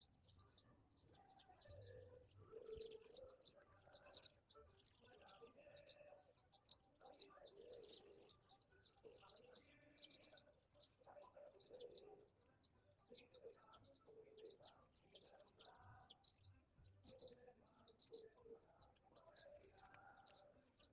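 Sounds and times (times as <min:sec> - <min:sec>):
faint birds chirping: 0:00.0 - 0:20.9.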